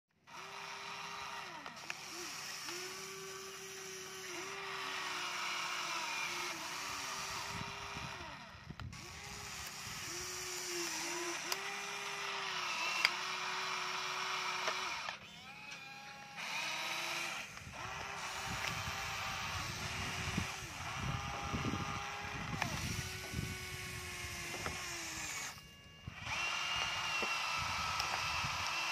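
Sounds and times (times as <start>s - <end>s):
toy electric motors whining: 0.2s - 28.9s.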